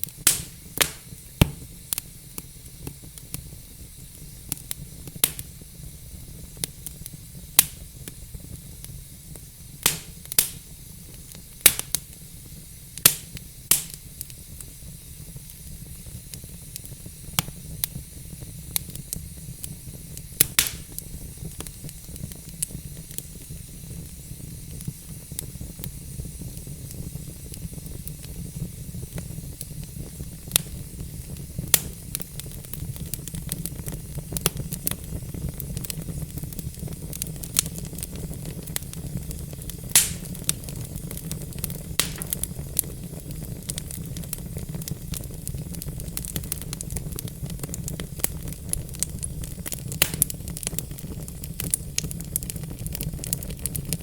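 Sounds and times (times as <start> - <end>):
log fire crackling: 0.0 - 54.0
sharp pops of fire: 0.0 - 54.0.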